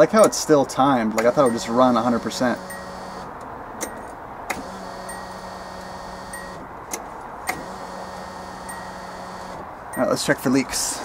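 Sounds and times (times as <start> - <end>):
electric fuel pump humming: 1.1 - 10.0.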